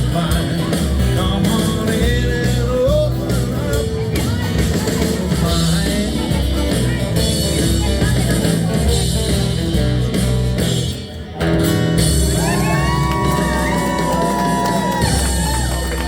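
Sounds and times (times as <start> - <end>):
guitar: 0.0 - 16.0
live rock band playing: 0.0 - 16.0.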